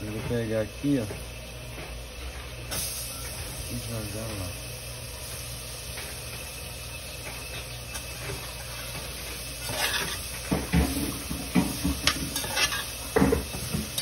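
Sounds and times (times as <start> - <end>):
greens sizzling in a pan: 2.7 - 14.0.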